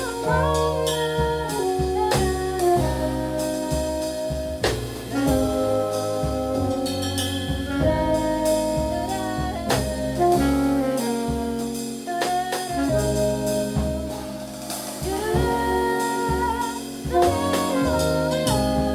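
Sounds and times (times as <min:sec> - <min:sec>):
alto saxophone melody: 0:00.0 - 0:18.9
double bass: 0:00.0 - 0:18.9
drum kit with cymbal strokes: 0:00.0 - 0:18.9.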